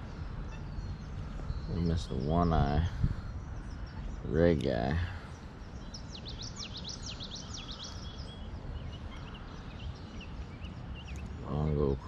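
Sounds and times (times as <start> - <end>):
low background noise: 0.0 - 12.0
songbird singing: 0.0 - 12.0.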